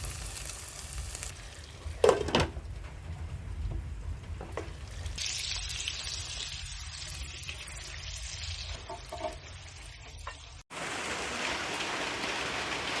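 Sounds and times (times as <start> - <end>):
chicken sizzling in hot oil: 0.0 - 2.3, 4.8 - 13.0.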